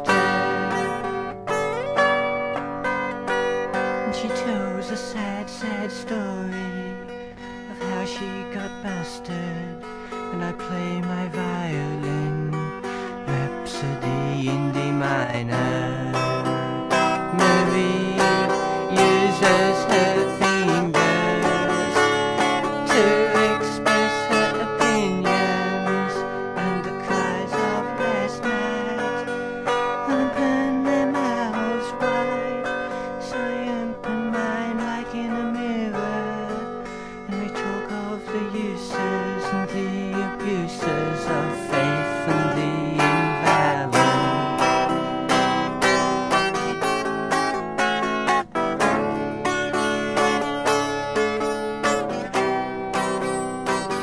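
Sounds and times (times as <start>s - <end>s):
plucked acoustic string instrument: 0.0s - 54.0s.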